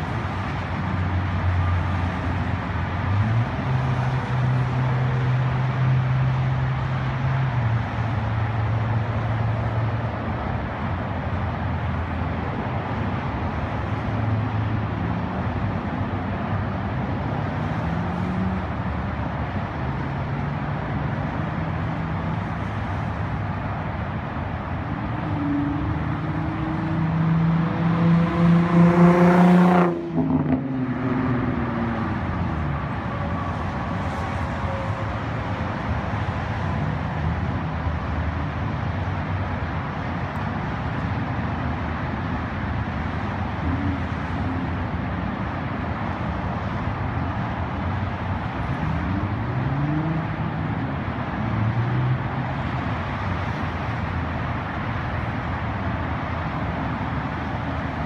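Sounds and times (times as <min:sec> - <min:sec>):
road noise hiss: 0:00.0 - 0:58.0
car engine droning: 0:10.8 - 0:58.0.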